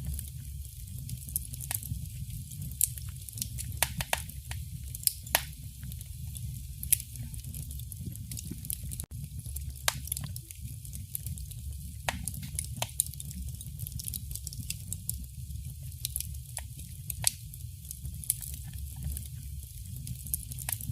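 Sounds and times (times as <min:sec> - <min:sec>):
fire crackling and popping: 0:00.0 - 0:20.9
wood fire flames rumbling: 0:00.0 - 0:20.9.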